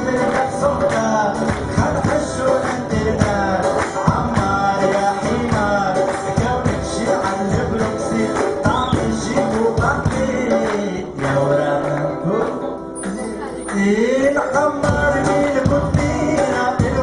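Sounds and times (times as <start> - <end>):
guitar: 0.0 - 17.0
hand percussion beat: 0.0 - 17.0
man singing: 0.0 - 17.0.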